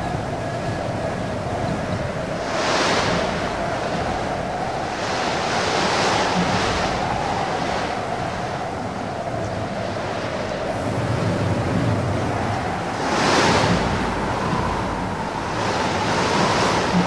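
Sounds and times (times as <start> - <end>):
strong gusting wind: 0.0 - 17.0.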